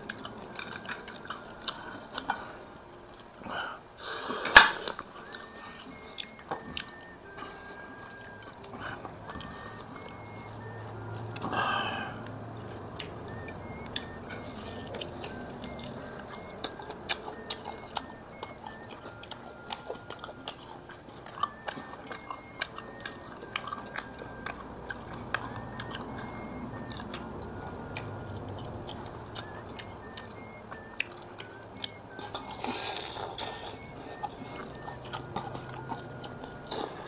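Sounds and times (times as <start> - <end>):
person chewing tough dried meat: 0.0 - 37.0.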